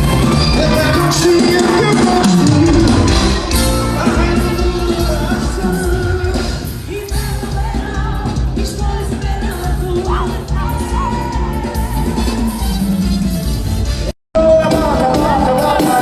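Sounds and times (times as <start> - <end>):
band music with singer: 0.0 - 16.0.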